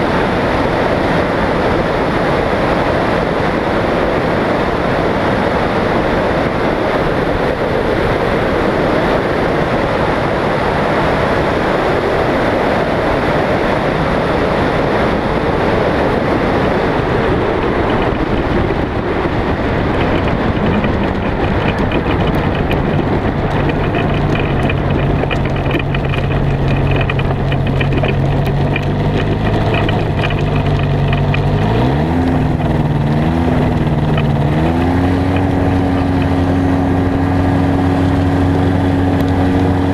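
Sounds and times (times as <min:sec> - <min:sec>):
light aircraft engine and propeller: 0:00.0 - 0:39.9
wind noise on microphone: 0:00.0 - 0:39.9.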